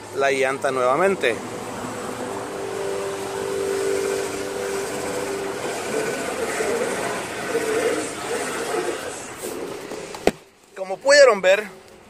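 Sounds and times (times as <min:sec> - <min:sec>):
steering whine: 0:00.0 - 0:10.8
uneven mechanical noise: 0:00.0 - 0:12.0.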